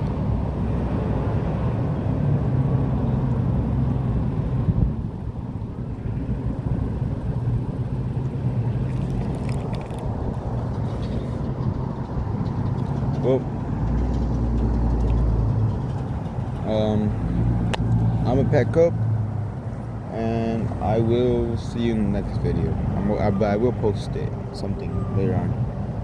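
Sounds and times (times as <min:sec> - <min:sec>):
traffic engine rumble: 0:00.0 - 0:26.0.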